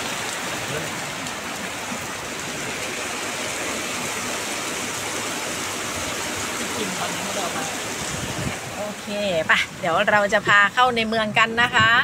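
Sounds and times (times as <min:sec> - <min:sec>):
heavy rain on wet pavement: 0:00.0 - 0:12.0.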